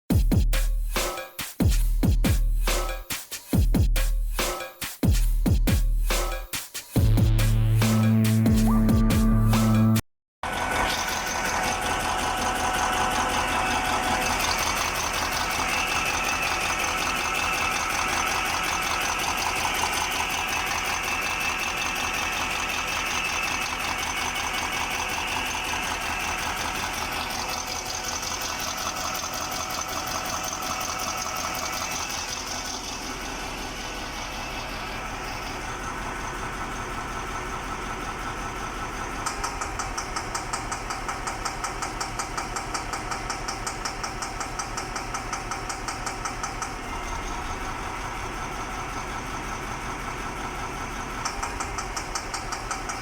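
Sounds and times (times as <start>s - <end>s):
rapid even engine knock: 0.1s - 7.6s, 11.0s - 53.0s
truck diesel engine idling: 7.0s - 53.0s.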